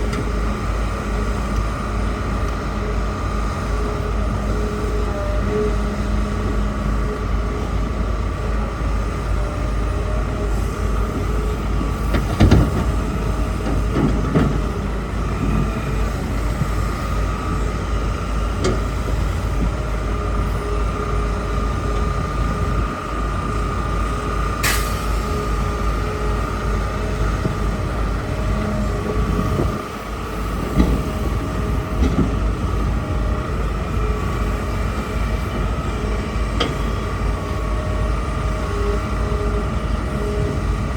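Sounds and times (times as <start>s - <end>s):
excavator engine rumbling: 0.0s - 40.9s
hydraulic whine: 0.0s - 40.9s.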